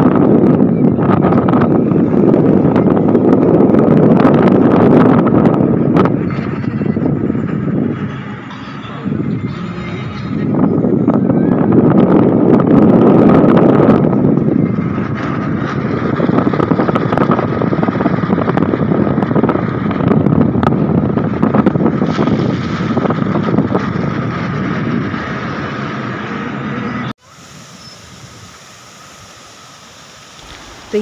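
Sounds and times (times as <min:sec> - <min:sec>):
moving car noise: 0:00.0 - 0:31.0
wind buffeting microphone: 0:00.0 - 0:31.0.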